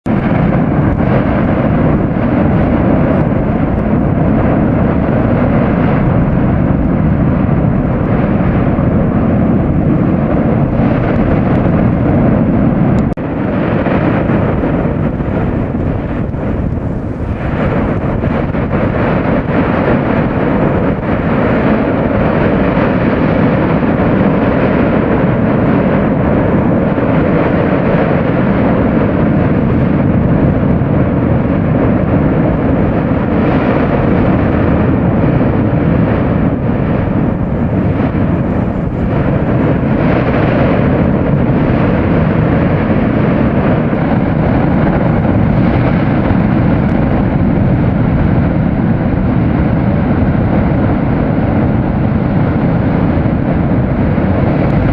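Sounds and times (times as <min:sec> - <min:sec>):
deep volcanic roar: 0:00.0 - 0:54.9.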